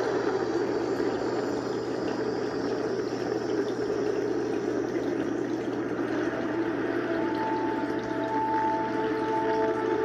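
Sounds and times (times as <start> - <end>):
soft held music tone: 0.0 - 10.0.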